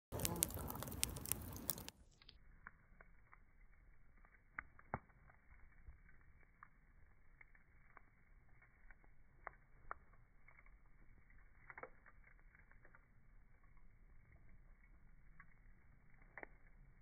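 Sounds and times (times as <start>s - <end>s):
pine cones crackling in a fire: 0.1s - 17.0s.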